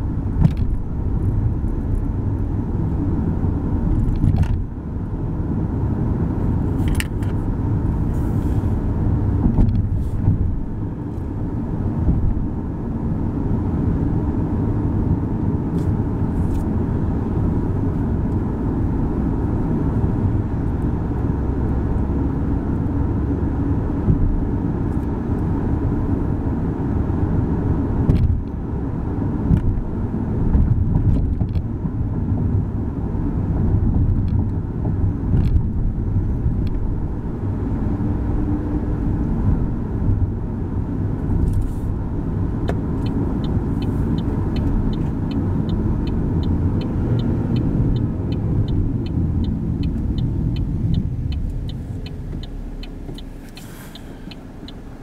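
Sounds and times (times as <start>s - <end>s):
car road noise rumble: 0.0s - 55.0s.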